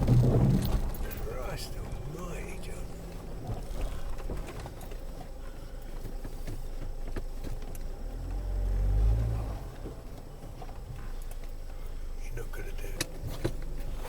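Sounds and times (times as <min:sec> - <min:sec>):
car engine running low: 0:00.0 - 0:14.0.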